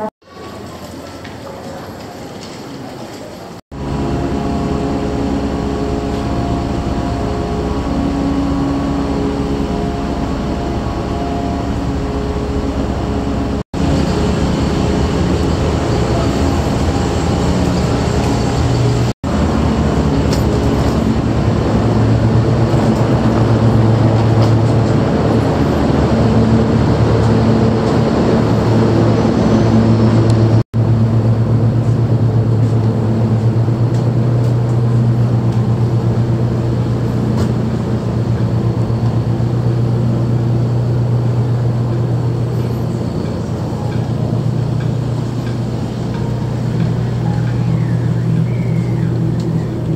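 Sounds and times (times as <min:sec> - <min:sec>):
ferry engines droning: 0:00.0 - 0:49.9.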